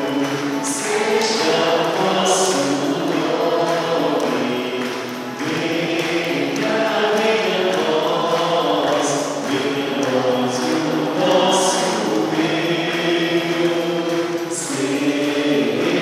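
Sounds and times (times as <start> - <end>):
congregation singing a hymn: 0.0 - 16.0.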